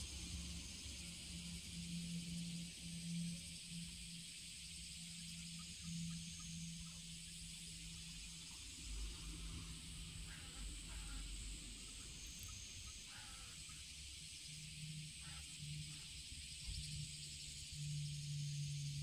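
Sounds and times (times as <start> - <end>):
insect drone: 0.0 - 19.0
low steady hum: 0.0 - 19.0.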